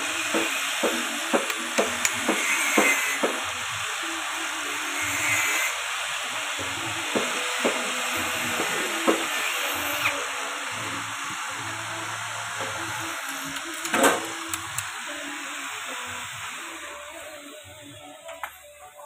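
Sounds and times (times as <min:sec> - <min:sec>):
grinder shaving wood: 0:00.0 - 0:18.6.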